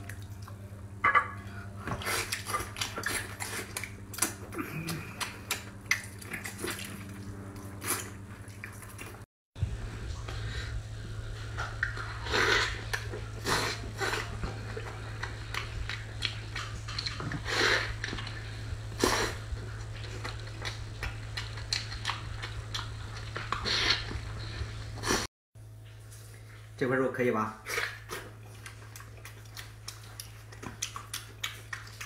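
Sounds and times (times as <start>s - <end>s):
person chewing food: 0.0s - 9.3s, 11.4s - 25.3s, 27.7s - 32.0s
steady low hum: 0.0s - 32.0s.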